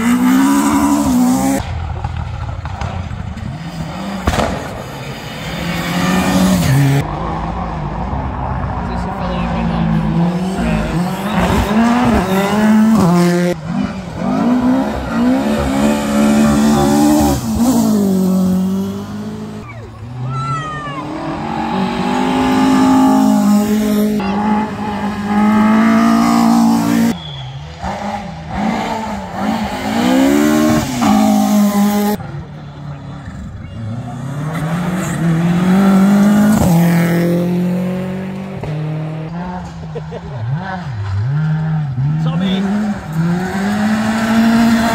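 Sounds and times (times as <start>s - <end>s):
rally car engines revving past: 0.0s - 44.9s.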